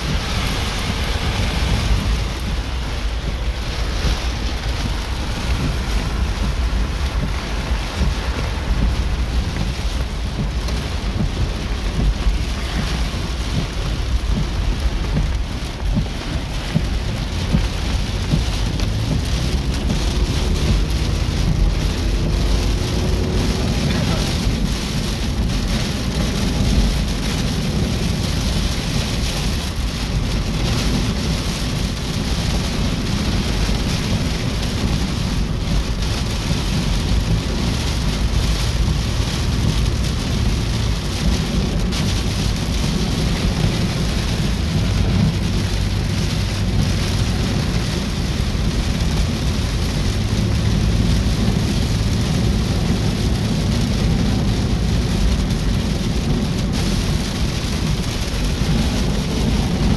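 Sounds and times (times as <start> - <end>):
heavy rain on car roof: 0.0 - 59.9
road and engine noise: 0.0 - 59.9.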